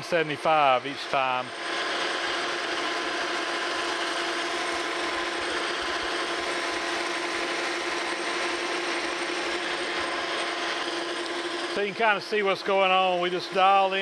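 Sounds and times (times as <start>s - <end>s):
lathe tool cutting metal: 0.0s - 14.0s
metal lathe humming: 0.0s - 14.0s.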